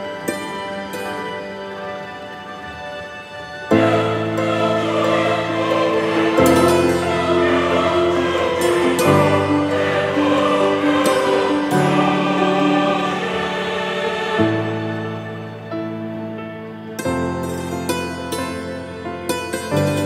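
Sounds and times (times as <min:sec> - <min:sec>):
slow sustained chords: 0:00.0 - 0:20.0.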